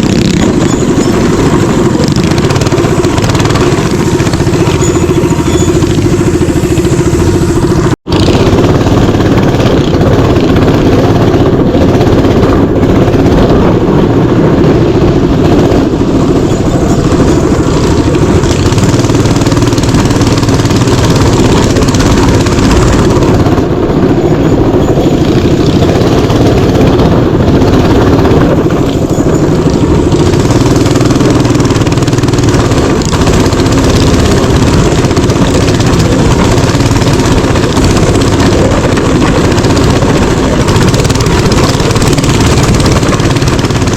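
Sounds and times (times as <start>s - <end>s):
mini bike engine under load: 0.0s - 43.9s.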